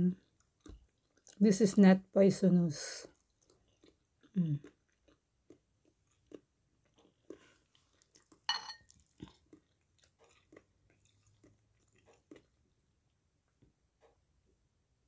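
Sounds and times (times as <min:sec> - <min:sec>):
person chewing with wet clicks: 0:00.1 - 0:01.4, 0:03.0 - 0:14.2.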